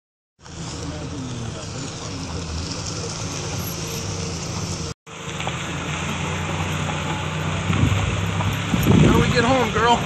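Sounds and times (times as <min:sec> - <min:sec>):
vehicle rumbling on dirt road: 0:00.4 - 0:10.0.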